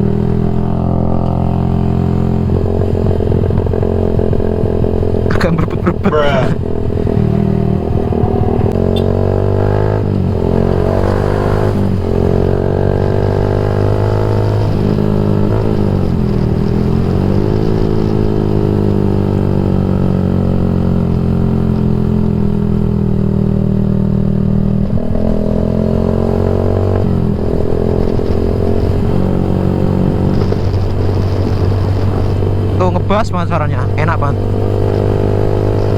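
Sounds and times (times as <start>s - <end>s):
motorcycle engine while riding: 0.0s - 35.9s.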